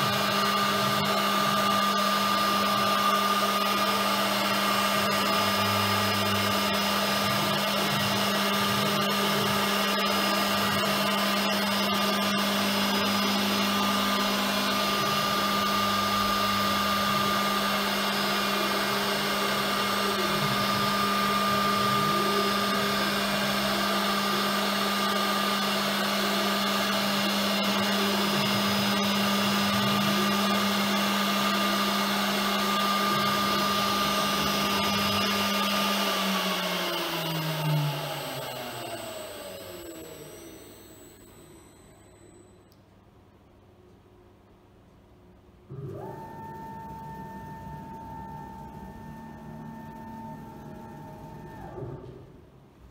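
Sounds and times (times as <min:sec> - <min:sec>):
router motor whine: 0:00.0 - 0:42.7, 0:45.7 - 0:52.3.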